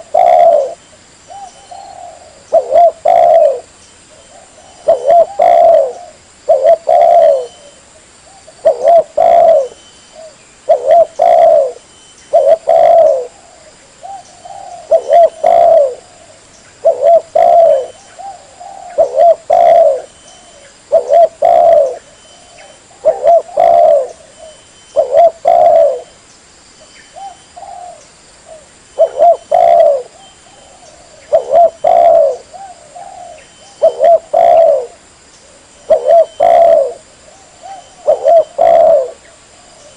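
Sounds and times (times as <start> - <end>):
dove cooing: 0.0 - 26.2, 27.1 - 39.9.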